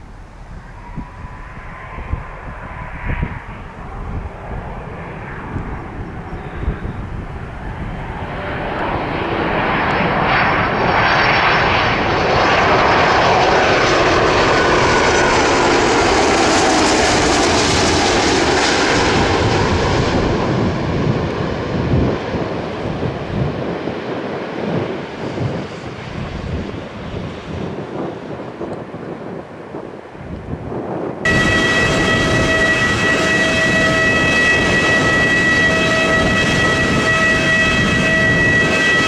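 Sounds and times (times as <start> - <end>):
jet airliner passing: 0.0 - 39.0.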